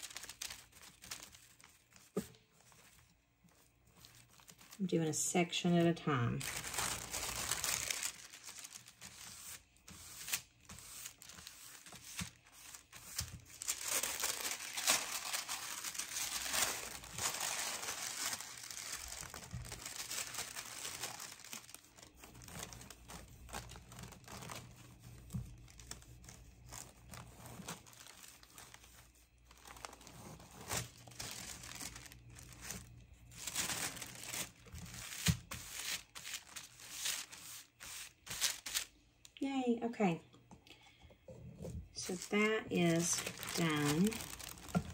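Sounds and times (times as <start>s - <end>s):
tissue paper crinkling: 0.0s - 38.9s, 42.0s - 44.9s.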